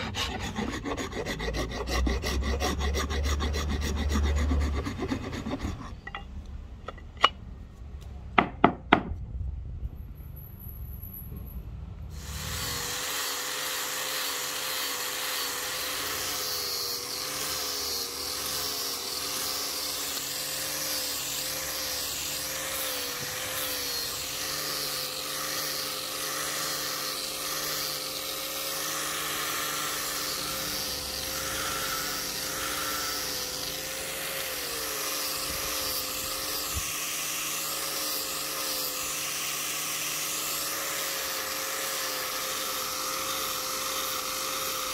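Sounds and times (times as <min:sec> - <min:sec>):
power tool grinding wood: 0:00.0 - 0:07.3, 0:12.2 - 0:44.9.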